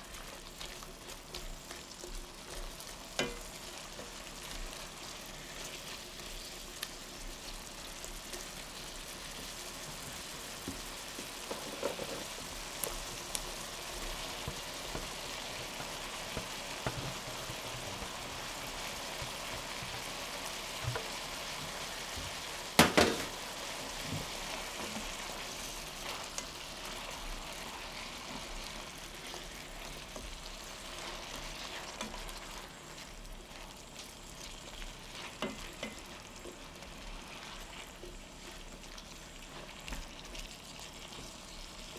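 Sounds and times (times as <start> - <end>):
vegetables and meat sizzling in pan: 0.0 - 41.9.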